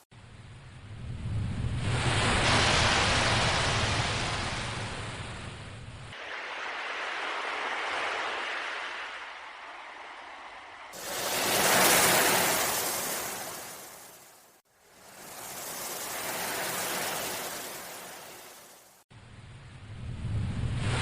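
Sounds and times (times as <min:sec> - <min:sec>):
ocean waves washing ashore: 0:00.0 - 0:19.1.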